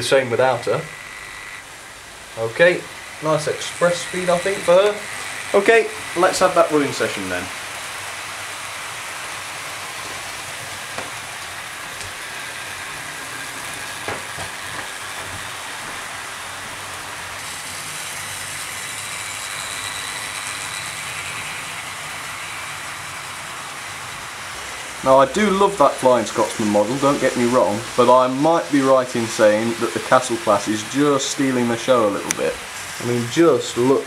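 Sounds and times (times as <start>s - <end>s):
model train motors whirring: 0.0s - 34.0s.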